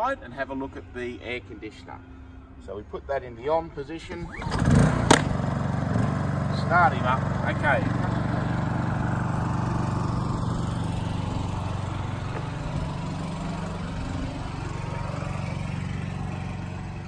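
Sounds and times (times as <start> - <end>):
generator engine hum: 0.0 - 17.0.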